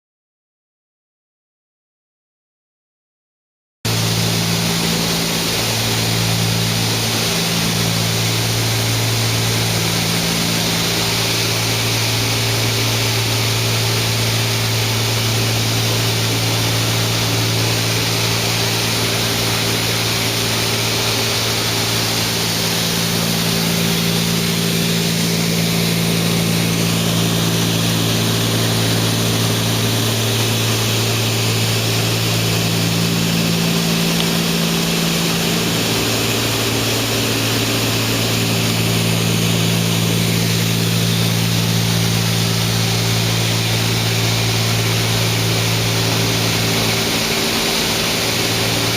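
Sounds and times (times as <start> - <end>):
airflow hiss: 3.9 - 48.9
airplane propeller engines droning: 3.9 - 48.9.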